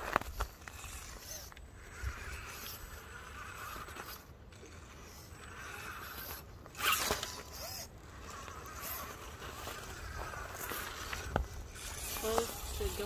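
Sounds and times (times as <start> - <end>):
electric motor and gears whirring: 0.0 - 13.0
scraping rustle: 0.0 - 13.0.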